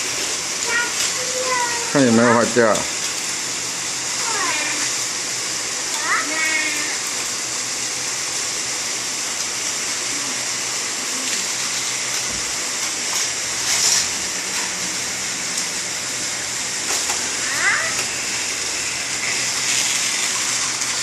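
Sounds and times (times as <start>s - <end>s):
steady hissing rushing noise: 0.0s - 21.0s.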